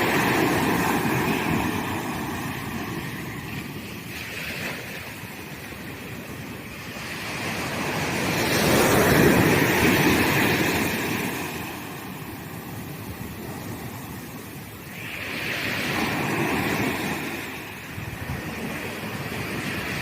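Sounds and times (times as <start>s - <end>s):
ocean wave breaking on beach: 0.0s - 20.0s.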